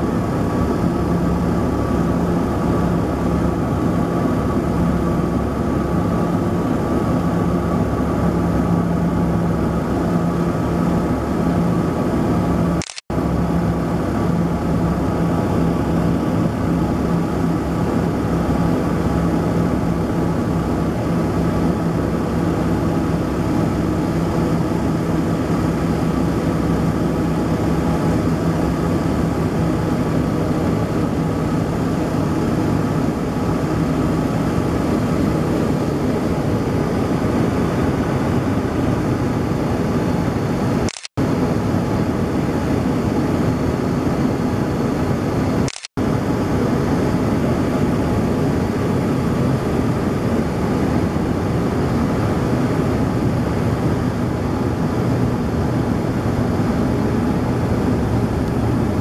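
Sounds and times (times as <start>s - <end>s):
airliner engines droning in cabin: 0.0s - 59.0s.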